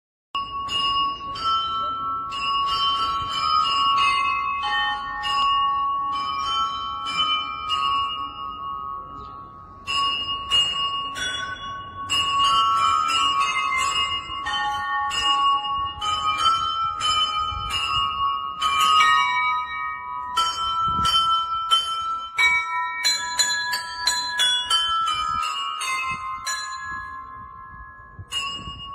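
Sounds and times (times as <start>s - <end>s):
church bells ringing: 0.4s - 28.9s.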